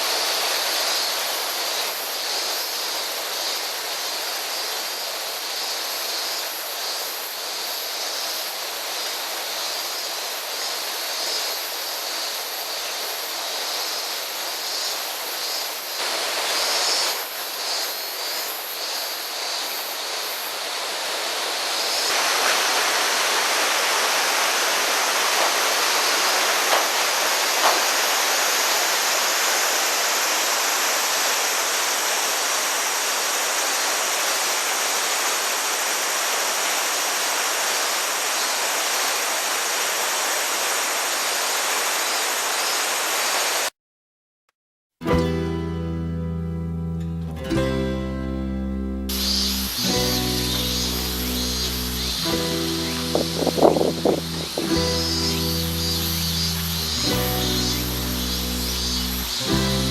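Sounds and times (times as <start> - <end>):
water rushing: 0.0 - 43.7, 49.1 - 59.9.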